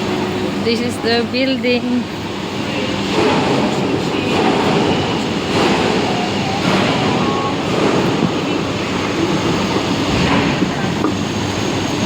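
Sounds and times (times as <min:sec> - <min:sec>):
construction machinery rumbling: 0:00.0 - 0:12.0.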